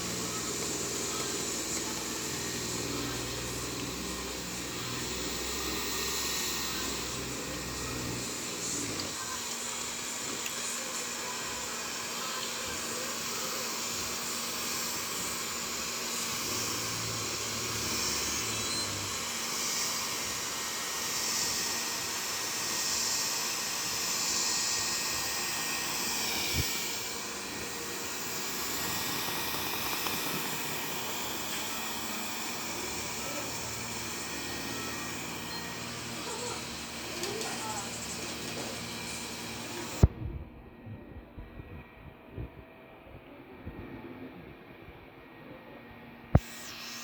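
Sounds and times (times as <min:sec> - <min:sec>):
robot vacuum cleaner whirring: 0:00.0 - 0:47.0.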